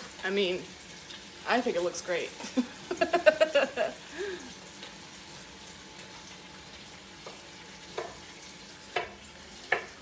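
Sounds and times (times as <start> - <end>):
sausages sizzling in a frying pan: 0.0 - 10.0.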